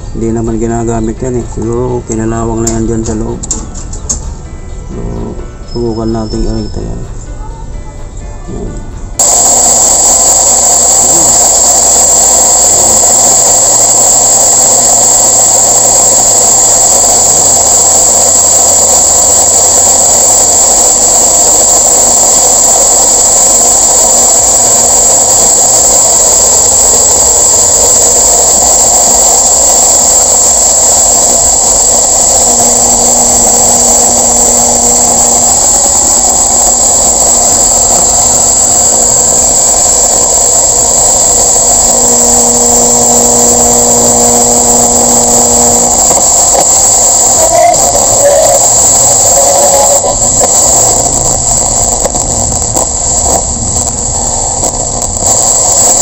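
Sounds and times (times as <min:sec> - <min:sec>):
loud steady speaker hiss: 0:00.0 - 0:56.0
low hum: 0:08.5 - 0:56.0.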